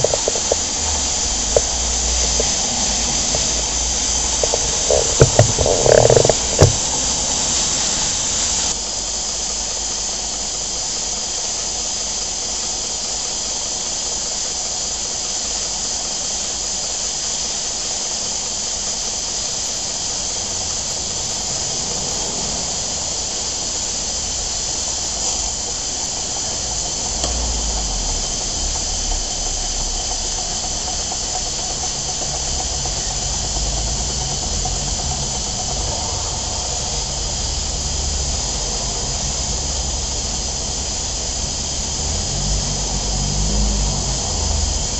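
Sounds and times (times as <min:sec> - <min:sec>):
steam hissing: 0:00.0 - 0:44.9.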